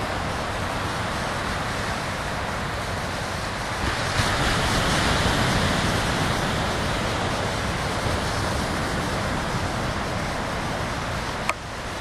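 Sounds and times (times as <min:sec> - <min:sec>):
waves washing onto sand: 0:00.0 - 0:12.0.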